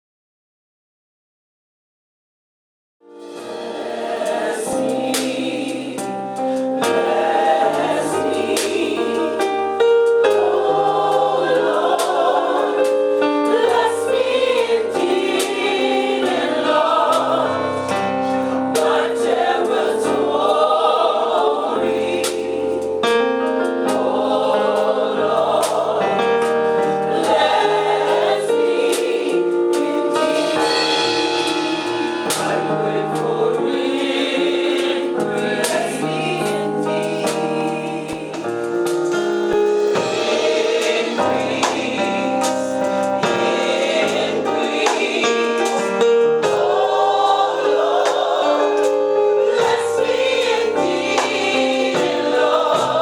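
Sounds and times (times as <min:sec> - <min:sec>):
gospel choir singing: 0:03.2 - 0:53.0.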